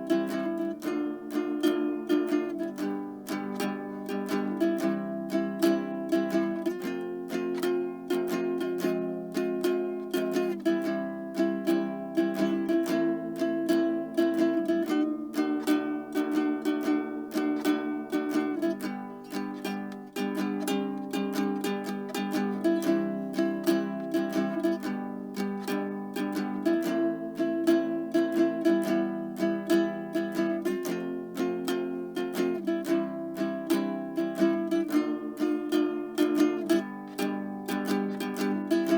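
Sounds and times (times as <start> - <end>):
ukulele tune: 0.0 - 38.9.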